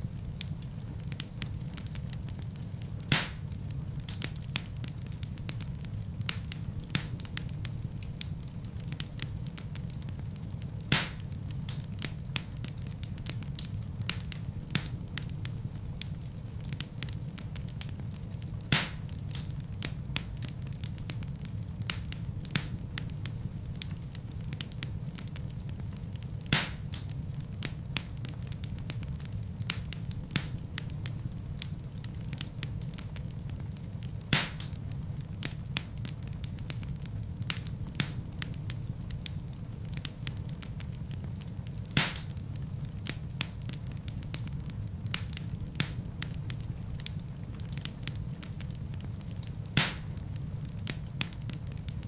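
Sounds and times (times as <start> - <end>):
fire rumbling and crackling: 0.0 - 52.0
wood fire popping: 0.0 - 52.0.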